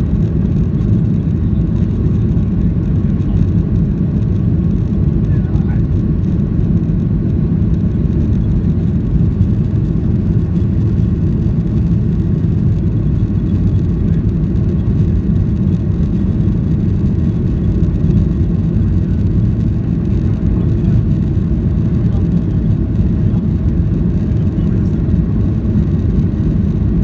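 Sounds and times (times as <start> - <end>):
jet engine cabin rumble: 0.0 - 27.0.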